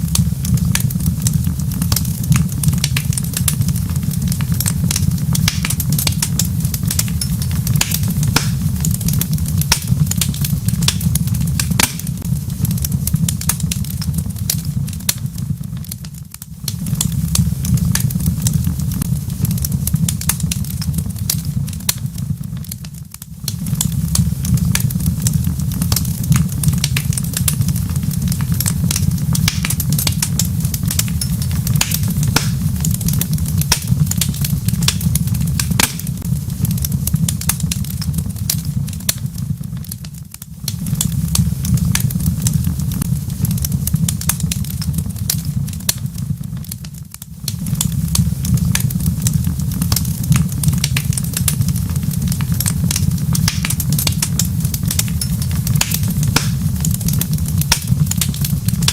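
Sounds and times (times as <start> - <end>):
fire flames rumbling: 0.0 - 58.9
wood fire pops and snaps: 0.0 - 58.9.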